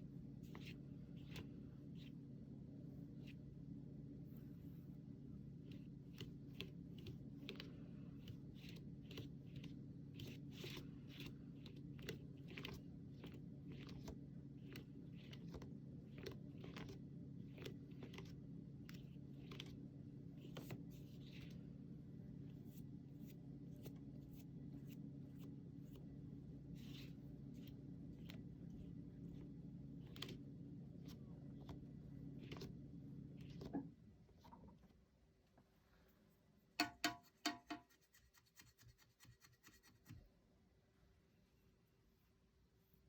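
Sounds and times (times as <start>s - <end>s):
faint low hum: 0.0s - 37.4s.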